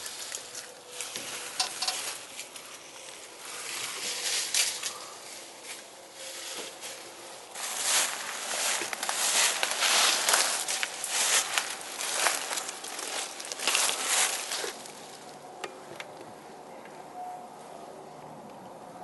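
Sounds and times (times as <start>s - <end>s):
footsteps on dry leaves: 0.0s - 15.4s.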